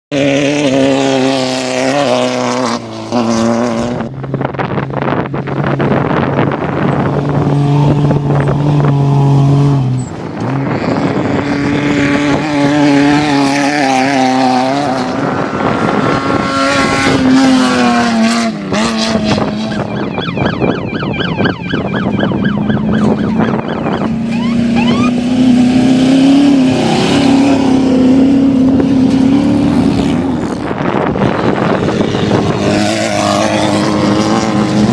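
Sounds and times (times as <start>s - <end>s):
race vehicle engines revving past: 0.1s - 34.9s.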